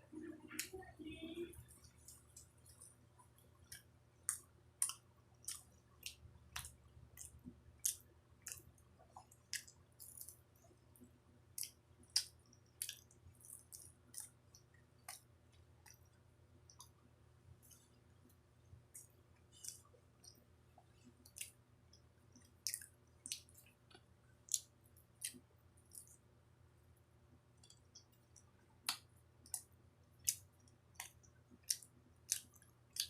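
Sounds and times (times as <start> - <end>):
close-up chewing: 1.6 - 17.0, 17.6 - 26.2, 27.6 - 33.0.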